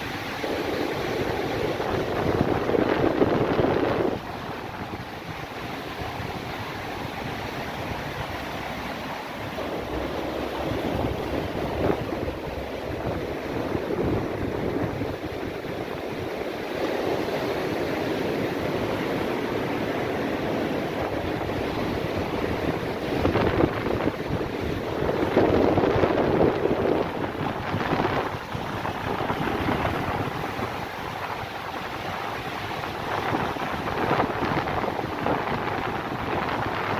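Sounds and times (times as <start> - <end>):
waves breaking on shore: 0.0 - 36.9
wind buffeting microphone: 0.0 - 36.9.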